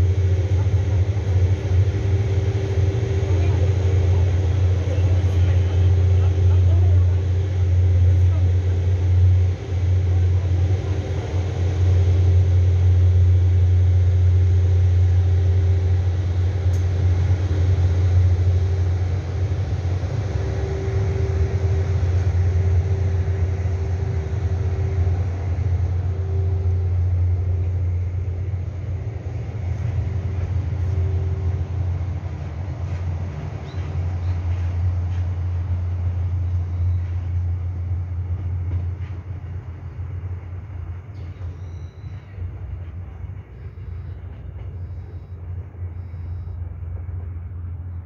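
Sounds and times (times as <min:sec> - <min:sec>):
diesel train engine humming: 0:00.0 - 0:48.0.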